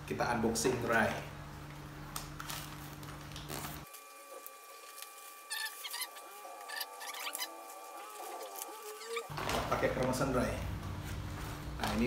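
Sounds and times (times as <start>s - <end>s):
paper and leaf wrapping crinkling: 2.1s - 12.0s.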